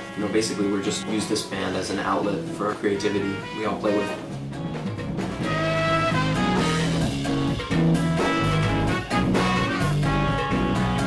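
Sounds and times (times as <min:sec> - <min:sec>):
jazz-funk band playing: 0:00.0 - 0:11.0.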